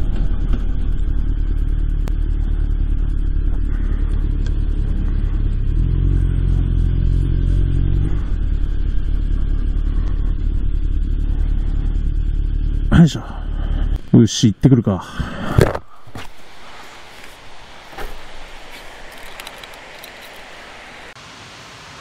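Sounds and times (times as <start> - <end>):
motorcycle engine running: 0.0 - 14.1, 15.6 - 21.2.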